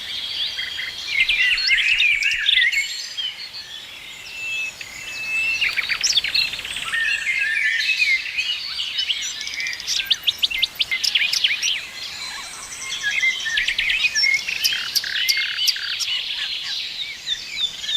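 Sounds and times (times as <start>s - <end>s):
songbirds singing and chirping: 0.0s - 17.9s.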